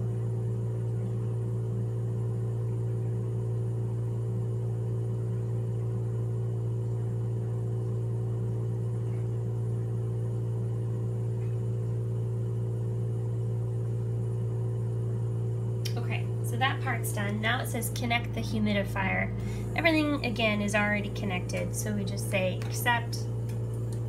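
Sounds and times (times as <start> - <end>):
ventilator mechanical hum: 0.0 - 24.0.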